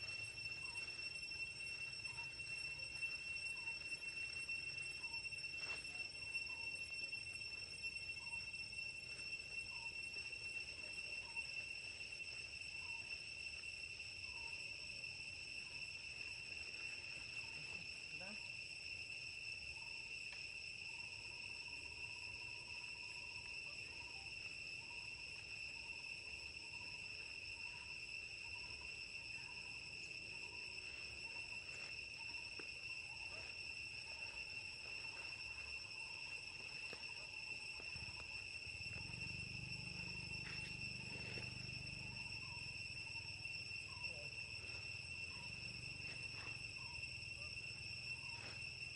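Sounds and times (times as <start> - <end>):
insect chorus whine: 0.0 - 48.9.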